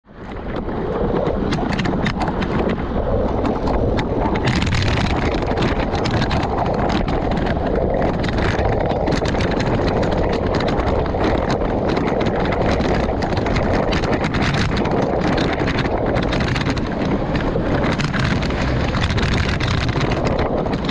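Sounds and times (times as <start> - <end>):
wind rushing over microphone: 0.0 - 20.9
bicycle clicks and rattles: 0.3 - 20.9.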